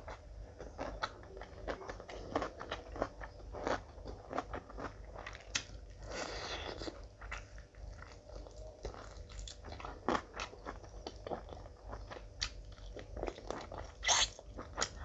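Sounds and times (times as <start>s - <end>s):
person chewing and biting food: 0.1s - 15.0s.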